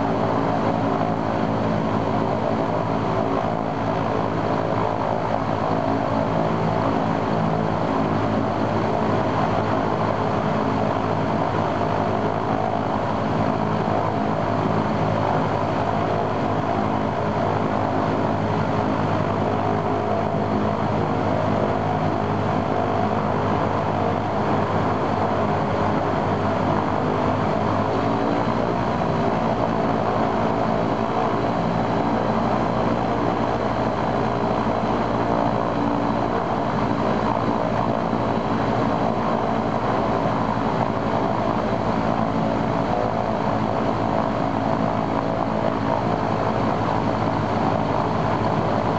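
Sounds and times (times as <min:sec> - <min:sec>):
radial aircraft engine running: 0:00.0 - 0:48.9.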